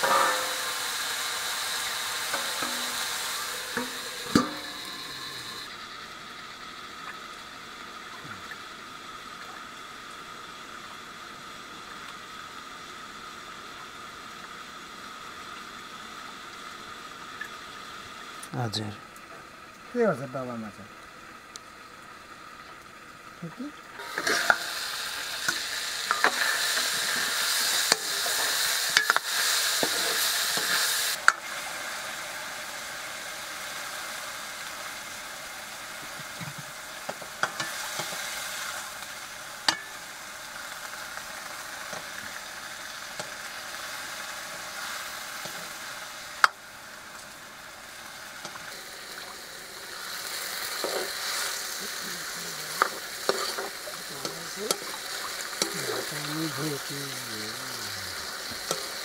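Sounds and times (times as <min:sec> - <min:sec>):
vegetables sizzling in a wok: 0:00.0 - 0:59.0.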